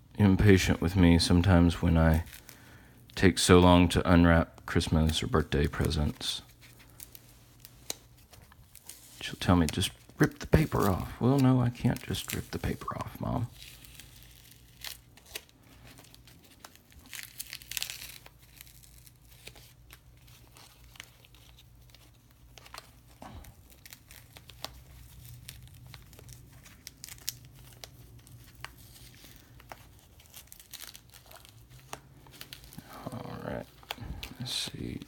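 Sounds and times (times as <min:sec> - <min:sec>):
wrapping paper rustling: 0:00.2 - 0:35.0.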